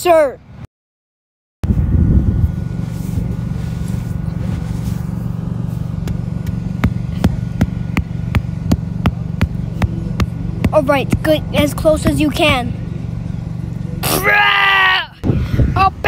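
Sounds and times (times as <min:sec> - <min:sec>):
vehicle engine rumbling: 0:01.6 - 0:16.0.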